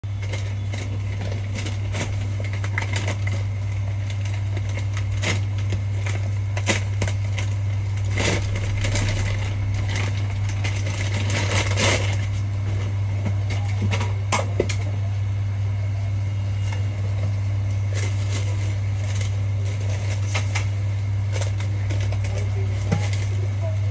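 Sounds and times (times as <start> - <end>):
low hum: 0.0 - 23.8
paper bag crinkling and tearing: 0.1 - 14.8, 17.8 - 23.8.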